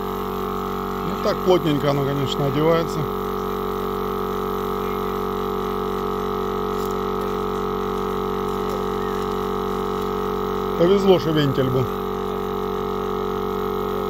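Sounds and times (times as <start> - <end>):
air compressor droning hum: 0.0 - 14.0.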